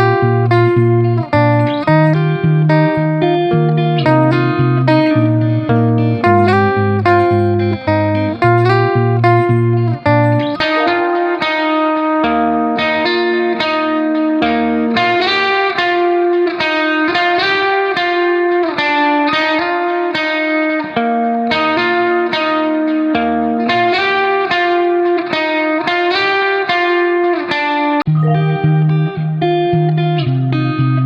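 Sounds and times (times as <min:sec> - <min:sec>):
plucked guitar melody: 0:00.0 - 0:31.0.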